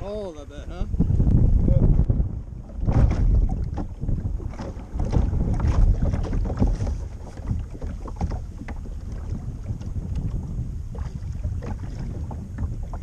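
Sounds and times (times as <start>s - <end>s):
wind rumble on microphone: 0.0s - 13.0s
kayak splashing water: 1.2s - 13.0s.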